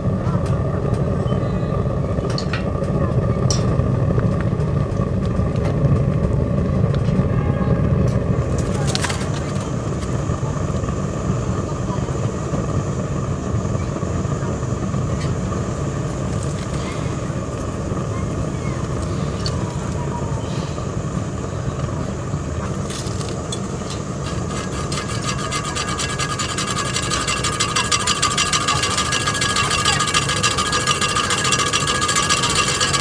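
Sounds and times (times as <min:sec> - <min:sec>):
pellet stove rumble and hum: 0:00.0 - 0:33.0
stove fan ticking rattle: 0:01.8 - 0:07.3, 0:08.0 - 0:20.1, 0:20.8 - 0:33.0.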